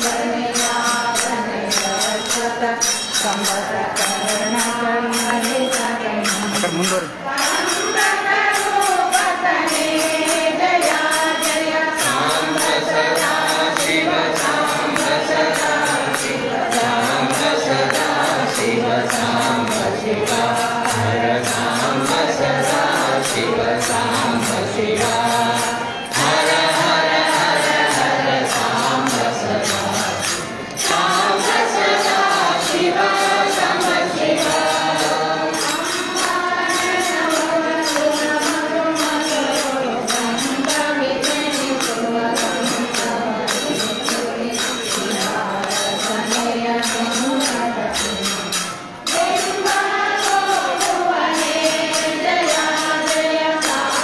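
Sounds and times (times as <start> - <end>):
group of voices singing: 0.0 - 54.0
jingling percussion rhythm: 0.0 - 54.0.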